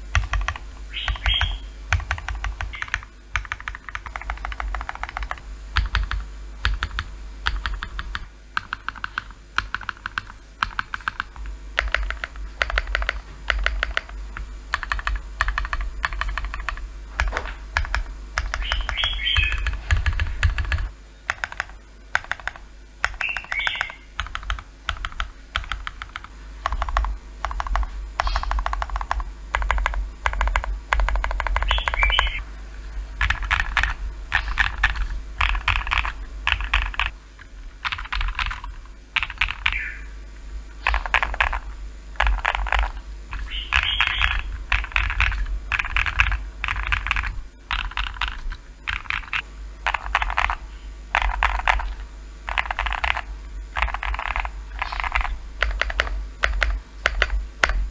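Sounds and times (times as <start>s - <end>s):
mechanical keyboard typing: 0.0s - 32.4s, 33.2s - 39.9s, 40.8s - 57.9s.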